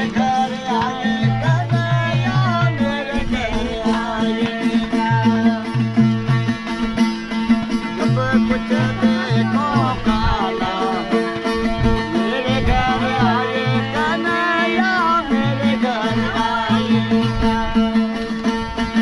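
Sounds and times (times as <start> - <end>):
person singing ornamented melody: 0.0 - 18.3
plucked low string notes: 0.0 - 19.0.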